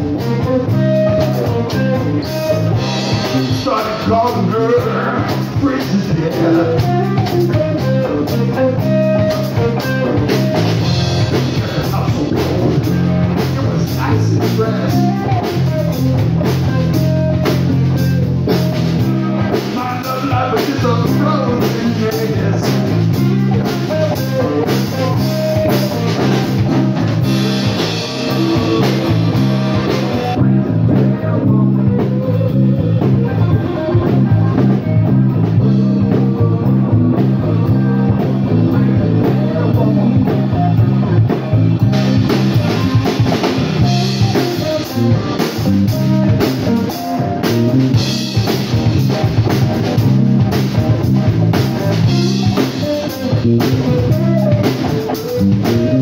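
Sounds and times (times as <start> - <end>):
bass line: 0.0 - 56.0
drum kit: 0.0 - 56.0
electric guitar: 0.0 - 56.0.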